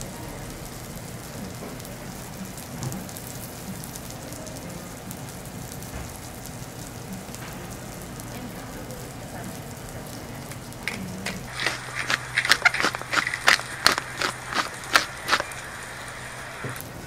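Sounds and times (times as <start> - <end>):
food sizzling on a griddle: 0.0 - 17.0.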